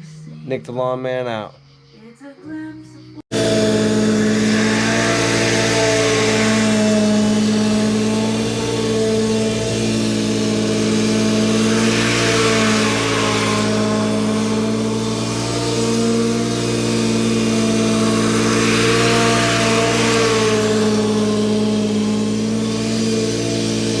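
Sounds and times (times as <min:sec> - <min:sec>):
mower engine running: 0:03.3 - 0:24.0.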